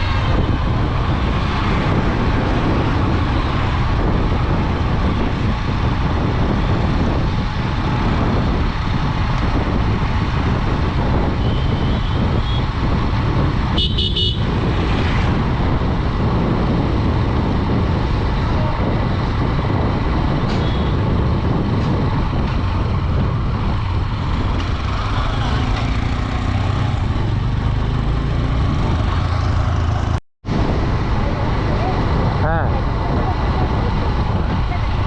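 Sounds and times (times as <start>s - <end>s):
road noise: 0.0s - 35.0s
wind rush: 0.0s - 35.0s.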